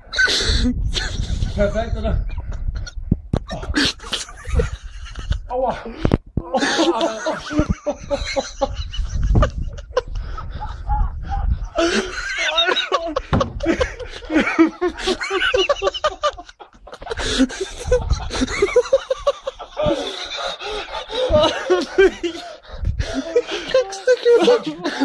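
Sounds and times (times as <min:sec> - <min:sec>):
people laughing: 0:00.0 - 0:25.0.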